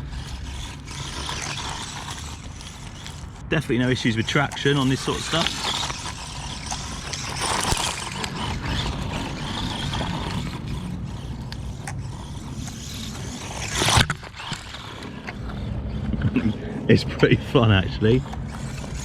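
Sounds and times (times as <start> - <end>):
electric motor whirring: 0.0 - 19.0
tyres crunching on gravel: 0.0 - 19.0.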